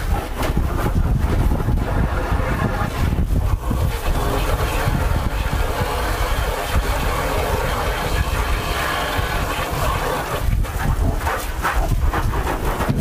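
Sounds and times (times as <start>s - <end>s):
hose spraying water on car: 0.0s - 13.0s
wind rumble on microphone: 0.0s - 13.0s.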